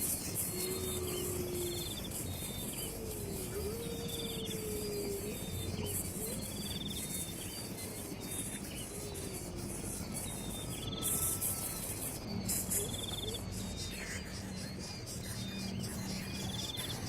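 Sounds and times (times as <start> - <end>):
crickets chirping: 0.0 - 17.0
faint low gliding calls: 0.0 - 17.0.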